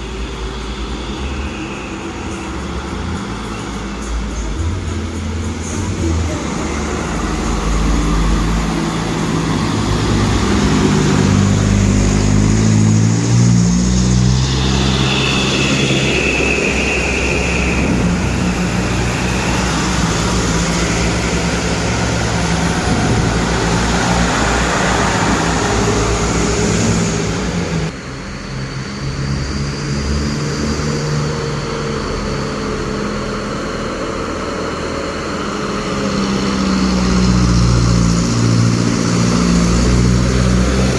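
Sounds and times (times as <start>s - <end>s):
diesel truck engines revving: 0.0s - 40.9s.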